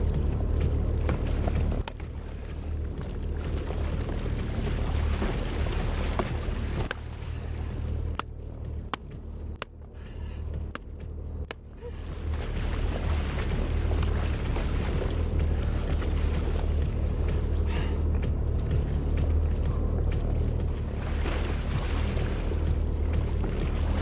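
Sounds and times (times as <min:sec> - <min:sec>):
jet ski engine running: 0:00.0 - 0:24.0
water splashing along hull: 0:00.0 - 0:24.0.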